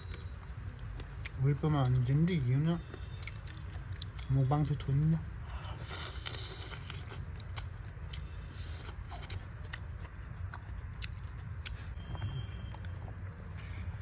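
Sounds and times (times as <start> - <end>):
mouth chewing crunches: 0.0 - 13.9.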